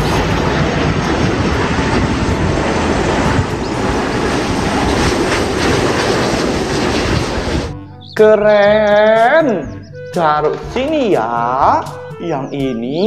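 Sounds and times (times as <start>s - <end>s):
jet airliner landing rumble: 0.0s - 11.3s.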